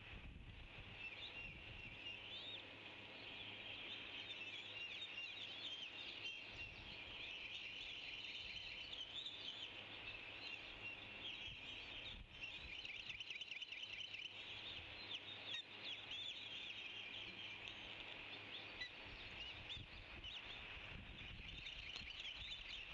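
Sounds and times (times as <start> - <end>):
flock of birds chirping: 0.0 - 22.9.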